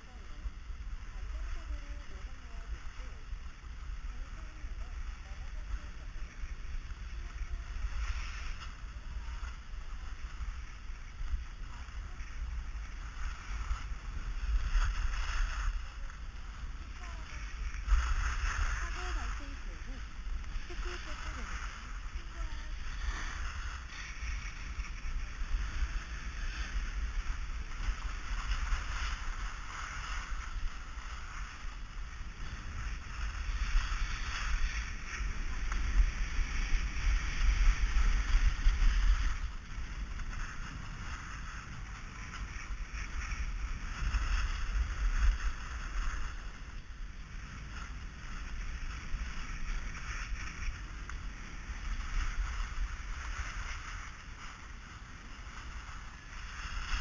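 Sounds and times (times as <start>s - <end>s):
snow scraping under skis: 0.0s - 57.0s
wind buffeting a camera: 0.0s - 57.0s.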